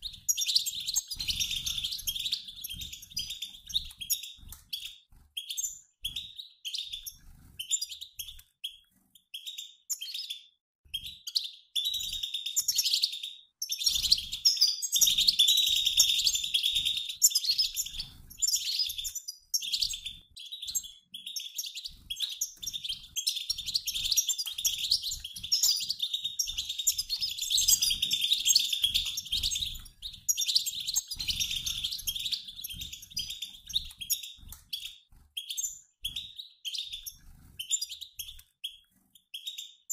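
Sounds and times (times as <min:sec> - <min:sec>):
finches twittering and chirping: 0:00.0 - 0:39.9.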